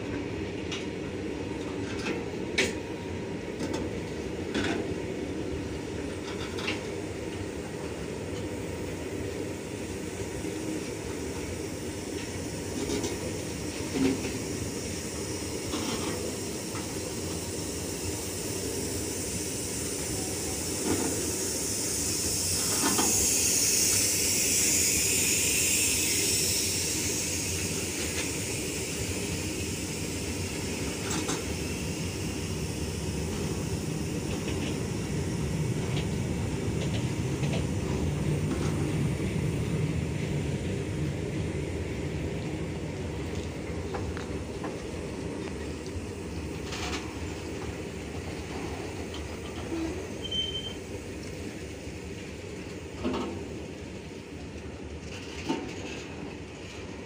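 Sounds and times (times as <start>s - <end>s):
train wheels rumbling on rail: 0.0s - 57.0s
high hiss: 5.2s - 54.2s.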